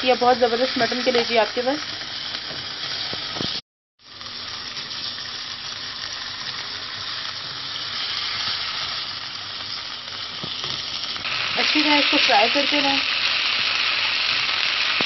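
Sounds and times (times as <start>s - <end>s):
liver sizzling in hot oil: 0.0s - 15.0s.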